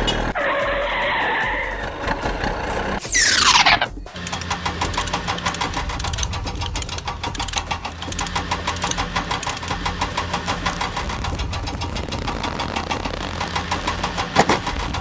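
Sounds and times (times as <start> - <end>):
engine clattering steadily: 1.8 - 3.0, 3.9 - 15.0.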